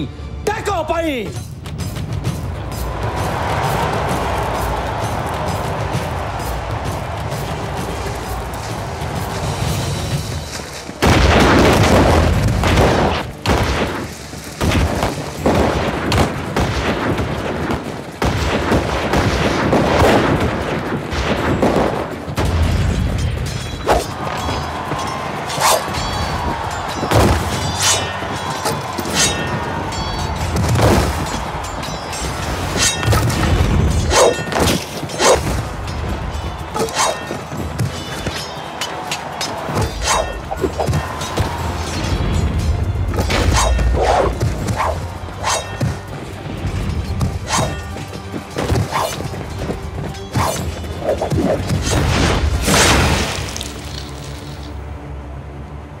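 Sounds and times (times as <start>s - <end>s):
film music score: 0.0s - 56.0s
musket volley: 0.5s - 54.2s
clashes of close combat: 3.0s - 47.9s, 50.3s - 54.6s.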